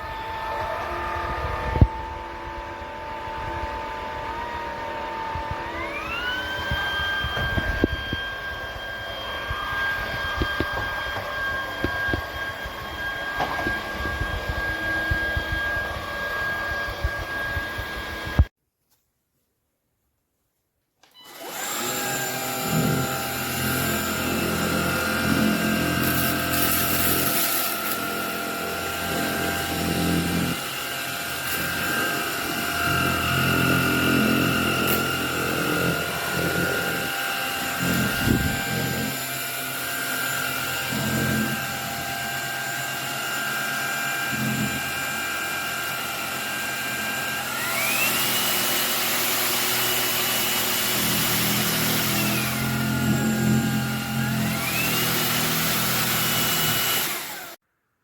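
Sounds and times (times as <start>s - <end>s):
vacuum head working the floor: 0.0s - 18.5s, 21.1s - 57.6s
vacuum motor whine: 0.0s - 18.5s, 21.1s - 57.6s.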